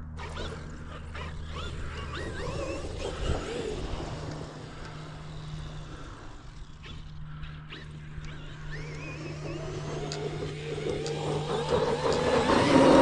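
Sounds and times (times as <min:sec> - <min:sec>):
electric motor whining: 0:00.0 - 0:13.0
steady low hum: 0:00.0 - 0:13.0.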